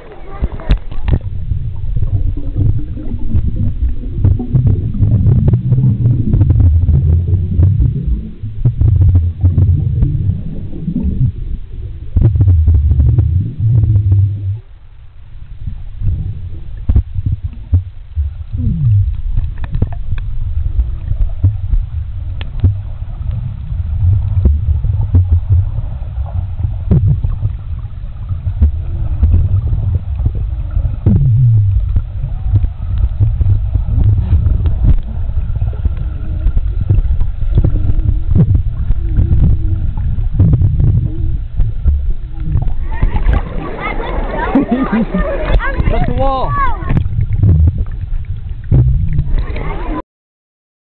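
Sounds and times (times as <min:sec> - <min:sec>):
bubbles clicking and popping: 0:00.0 - 0:11.4, 0:16.7 - 0:25.9, 0:26.6 - 0:49.9
gurgle sliding down in pitch: 0:00.0 - 0:14.7, 0:15.6 - 0:50.0
muffled underwater rumble and sloshing: 0:00.0 - 0:50.0.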